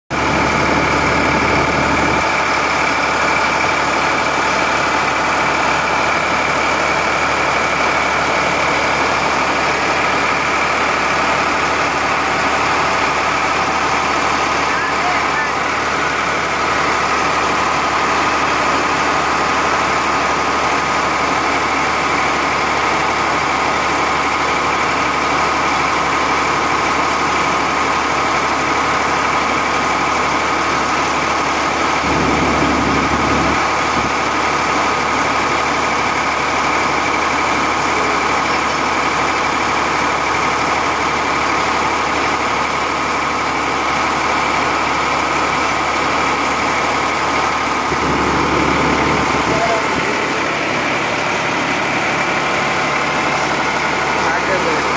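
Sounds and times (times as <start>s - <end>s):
machinery whine: 0.1s - 26.8s, 27.4s - 54.9s
tractor diesel engine running: 0.1s - 54.9s.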